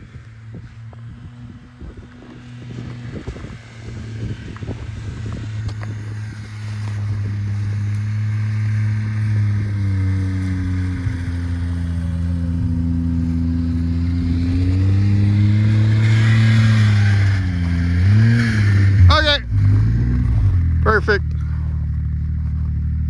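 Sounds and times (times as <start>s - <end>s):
snowmobile engine running: 0.0s - 23.0s.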